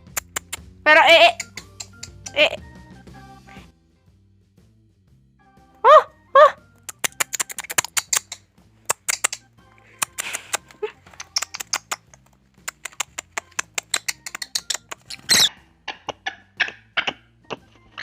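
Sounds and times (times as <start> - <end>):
parrot clicking and chirping: 0.0 - 2.5, 5.8 - 18.0
background music: 0.0 - 18.0.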